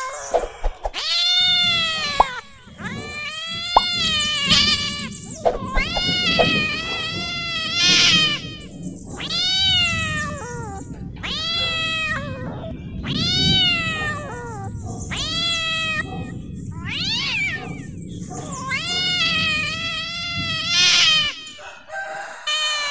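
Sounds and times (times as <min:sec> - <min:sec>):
cat yowling angry meows: 0:00.0 - 0:22.9.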